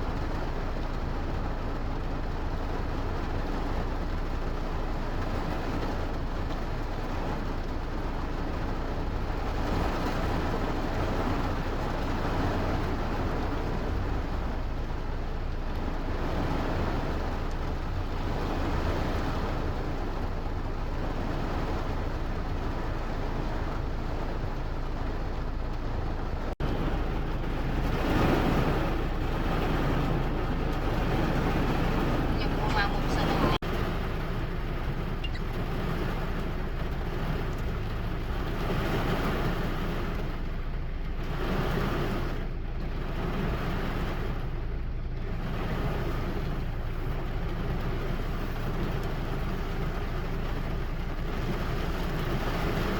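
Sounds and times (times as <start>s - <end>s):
deep rumble: 0.0s - 52.9s
steady rain: 0.0s - 52.9s.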